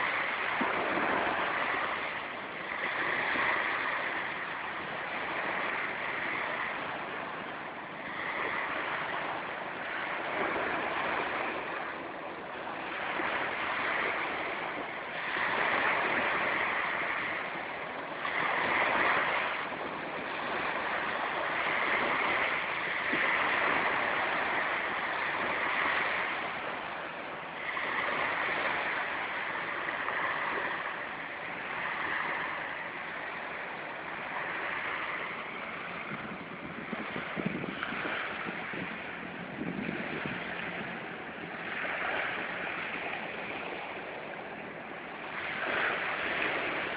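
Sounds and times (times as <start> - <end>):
sea waves breaking: 0.0 - 46.9.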